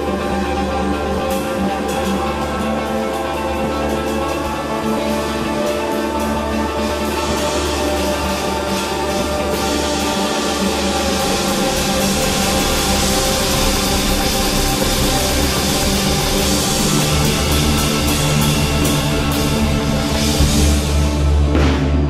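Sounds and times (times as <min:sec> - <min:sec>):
drum kit hitting steadily: 0:03.8 - 0:22.0.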